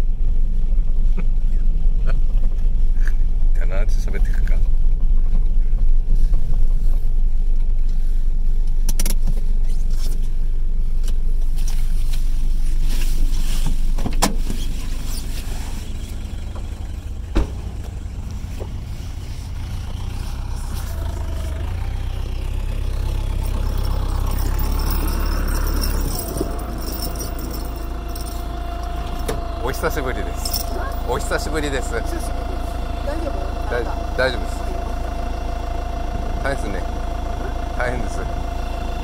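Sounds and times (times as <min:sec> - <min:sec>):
car driving rumble: 0:00.0 - 0:39.0.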